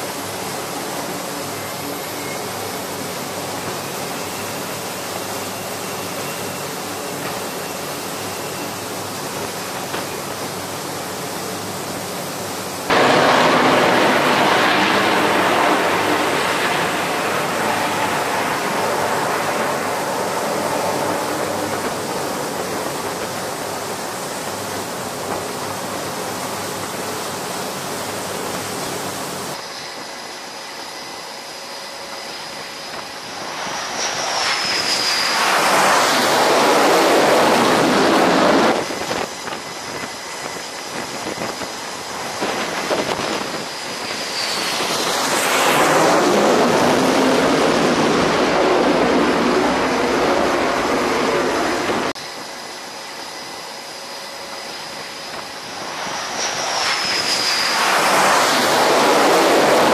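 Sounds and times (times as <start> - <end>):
fighter jet engines running: 0.0 - 59.9.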